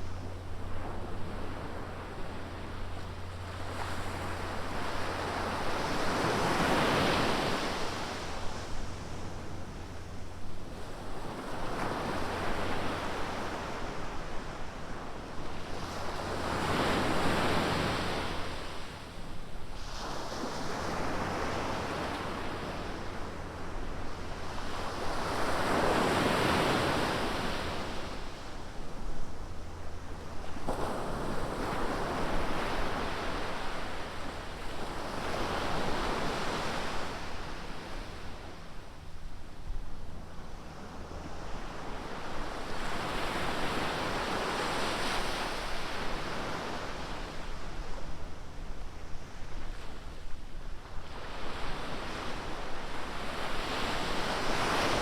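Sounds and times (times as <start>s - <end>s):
low surf rumble: 0.0s - 26.0s, 26.8s - 55.0s
ocean waves breaking: 0.0s - 55.0s.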